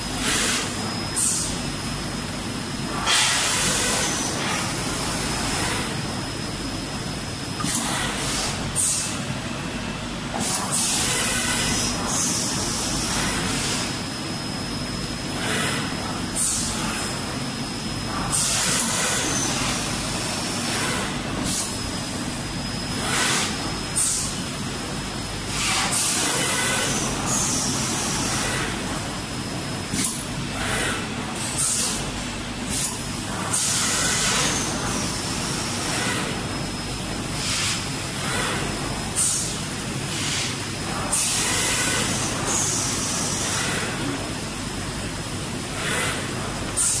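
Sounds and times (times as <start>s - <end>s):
laminating machine hum: 0.0s - 47.0s.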